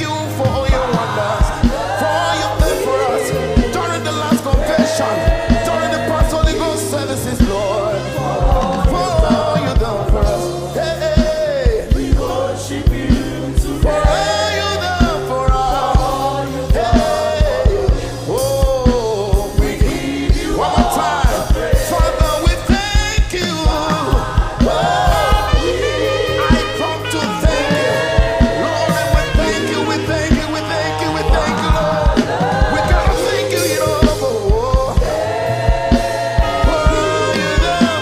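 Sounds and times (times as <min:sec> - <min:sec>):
band with drums and bass: 0:00.0 - 0:38.0
gospel singing: 0:00.0 - 0:38.0.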